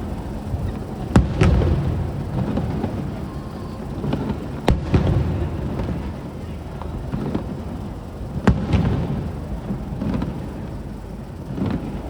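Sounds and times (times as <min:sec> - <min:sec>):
low rumble of echoing booms: 0:00.0 - 0:03.3, 0:03.9 - 0:12.0
fireworks bursting with sharp bangs: 0:00.0 - 0:12.0.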